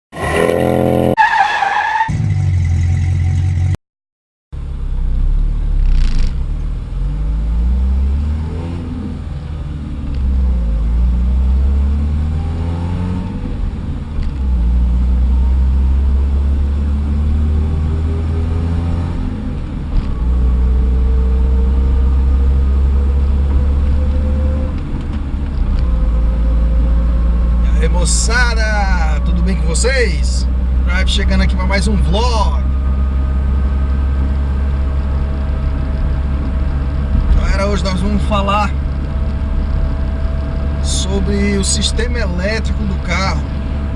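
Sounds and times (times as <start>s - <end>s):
car engine and road rumble: 0.1s - 3.8s, 4.6s - 43.9s.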